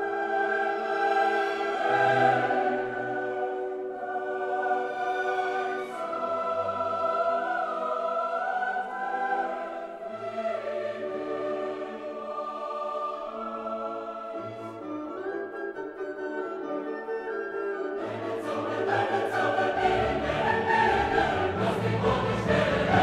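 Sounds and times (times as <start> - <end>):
choir singing slow chords: 0.0 - 15.3, 18.0 - 23.0.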